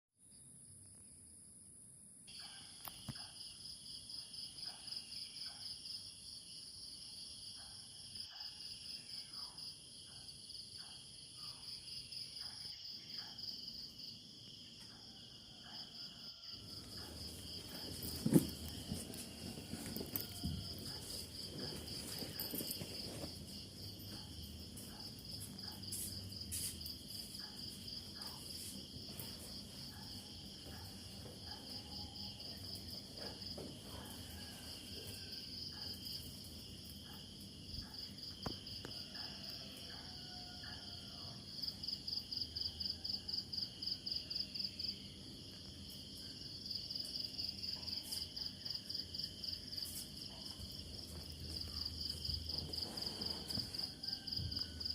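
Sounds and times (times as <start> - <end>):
crickets chirping: 0.2 - 54.9.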